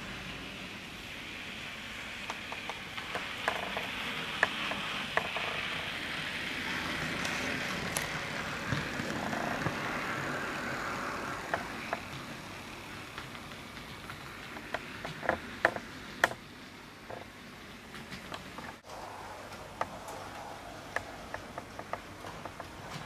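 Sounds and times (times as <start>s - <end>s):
wheels clicking over rail joints: 2.1s - 23.0s.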